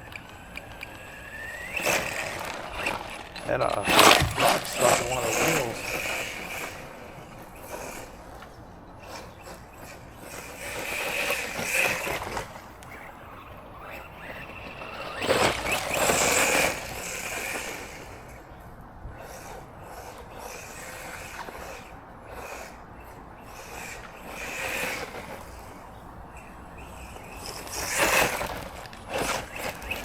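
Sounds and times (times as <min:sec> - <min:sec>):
rc truck motor whine: 0:00.0 - 0:30.0.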